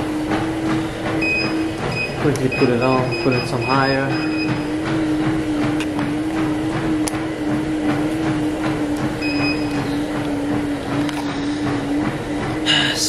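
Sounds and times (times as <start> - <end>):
footfalls on treadmill belt: 0.0 - 12.7
treadmill motor hum: 0.0 - 13.0.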